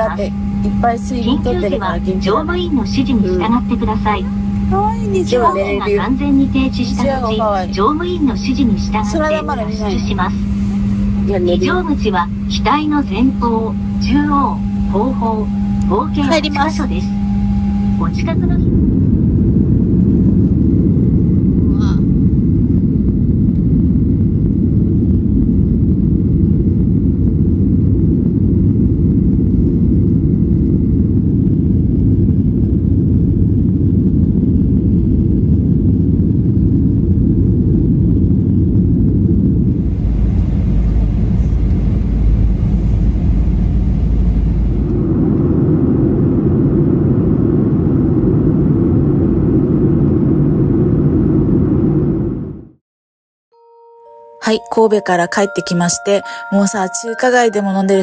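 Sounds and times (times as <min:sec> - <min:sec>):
jet engine rumble and airflow: 0:00.0 - 0:52.8.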